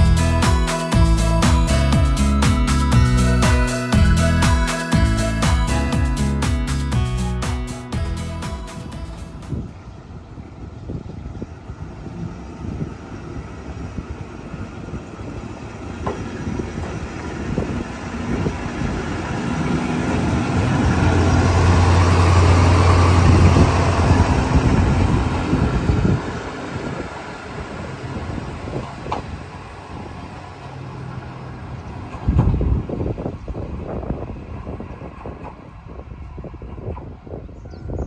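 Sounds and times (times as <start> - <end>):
diesel railcar engine drone: 0.0 - 38.0
train wheels on rails: 0.0 - 38.0.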